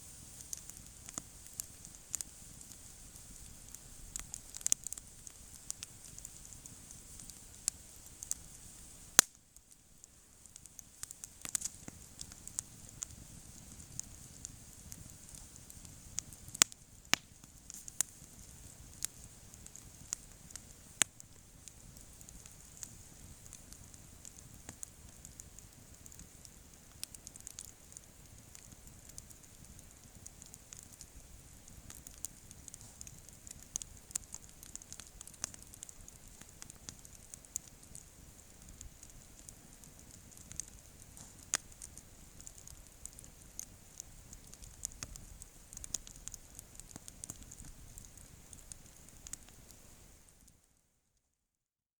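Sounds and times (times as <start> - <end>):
campfire hissing: 0.0 - 50.6
fire crackling and popping: 0.0 - 50.8.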